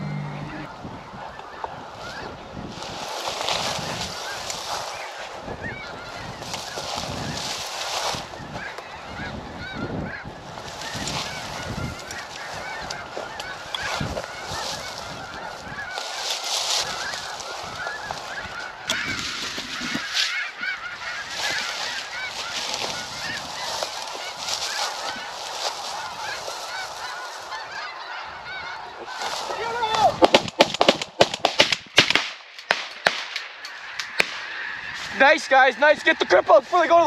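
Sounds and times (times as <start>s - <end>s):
geese honking: 0.0s - 30.3s, 33.4s - 37.0s.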